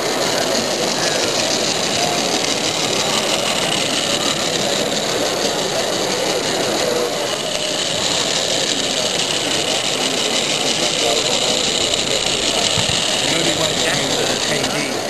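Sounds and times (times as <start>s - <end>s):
crowded hall din: 0.0s - 15.0s
steam locomotive hissing: 0.0s - 15.0s.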